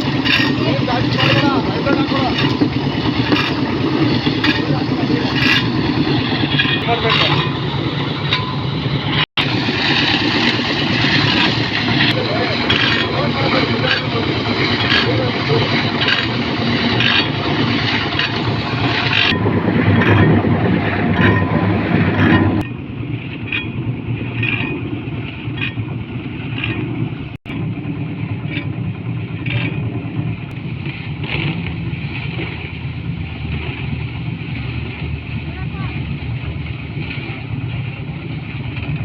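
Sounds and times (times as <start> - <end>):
concrete mixer engine running: 0.0 - 39.0.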